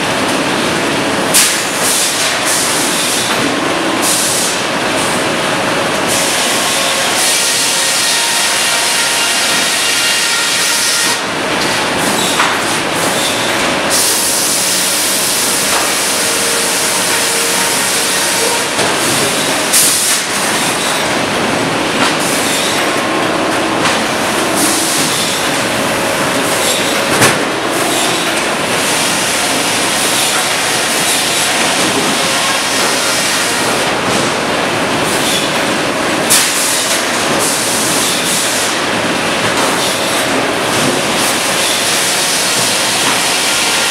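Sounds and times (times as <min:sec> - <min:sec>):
sawmill machinery running: 0:00.0 - 0:43.9.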